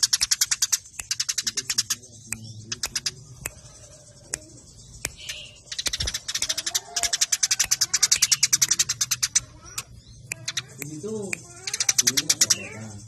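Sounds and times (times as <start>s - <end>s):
sparrows chirping: 0.0s - 13.0s.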